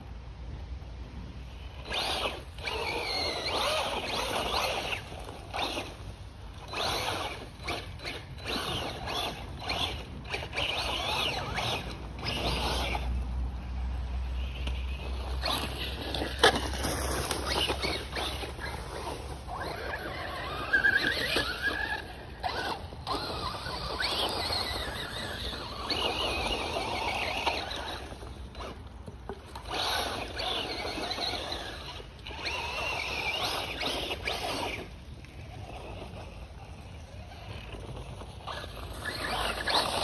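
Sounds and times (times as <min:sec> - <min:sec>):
electric rc truck motor whine: 0:00.1 - 0:40.0
tyres scrabbling on dirt: 0:01.4 - 0:40.0.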